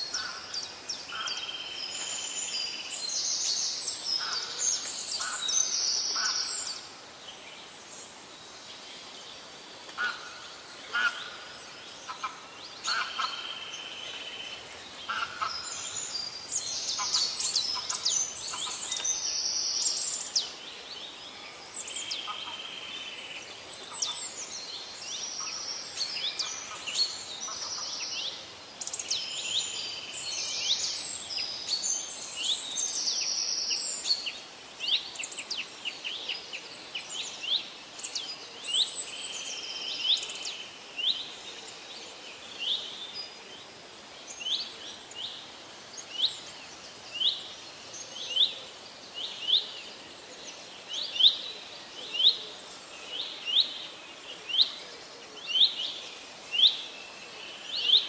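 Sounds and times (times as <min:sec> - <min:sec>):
birds chirping: 0:00.0 - 0:54.8.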